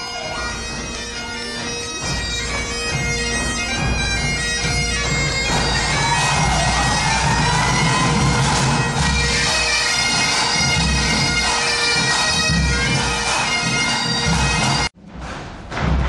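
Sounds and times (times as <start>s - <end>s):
bagpipes with drone: 0.0s - 14.9s.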